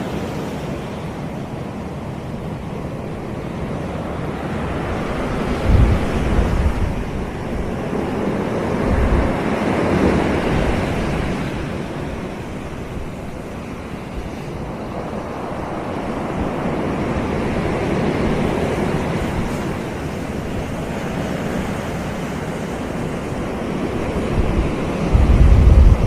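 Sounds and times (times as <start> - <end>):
waves breaking on beach: 0.0 - 26.0
wind rumbling on microphone: 0.0 - 26.0.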